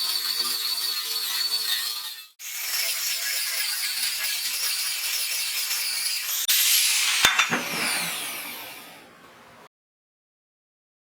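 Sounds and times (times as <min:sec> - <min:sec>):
high-pitched power tool running: 0:00.0 - 0:09.3.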